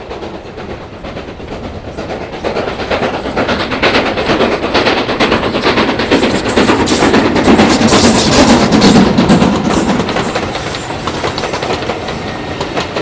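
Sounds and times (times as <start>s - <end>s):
steam locomotive passing: 0.0s - 13.0s.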